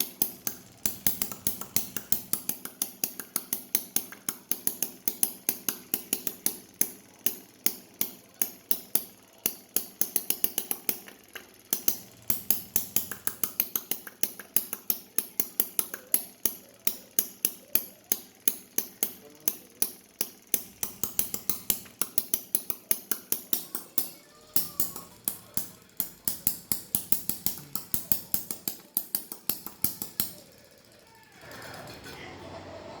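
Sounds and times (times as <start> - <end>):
miniature engine popping: 0.0 - 32.2.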